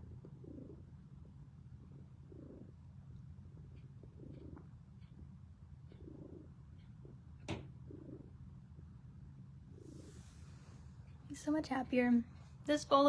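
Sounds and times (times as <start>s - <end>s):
cat purring: 0.0s - 10.8s.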